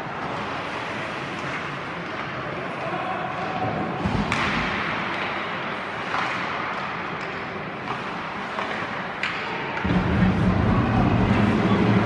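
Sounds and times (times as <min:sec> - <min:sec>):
hockey sticks and puck clacking: 0:00.0 - 0:10.0.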